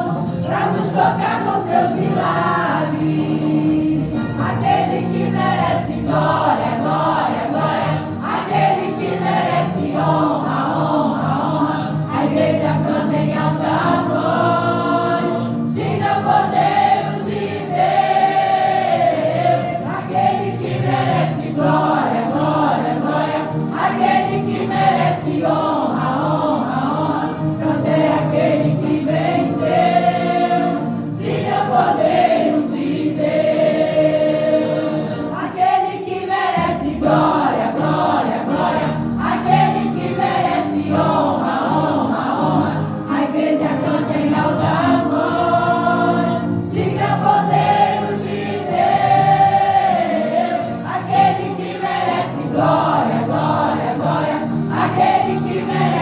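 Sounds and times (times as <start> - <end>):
vocal group singing: 0.0 - 56.0.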